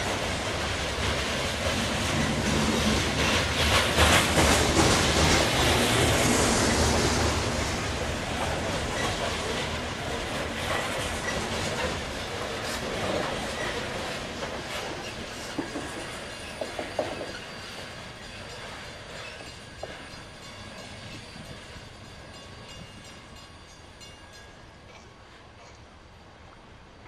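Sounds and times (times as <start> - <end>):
freight cars rolling on rails: 0.0 - 25.9.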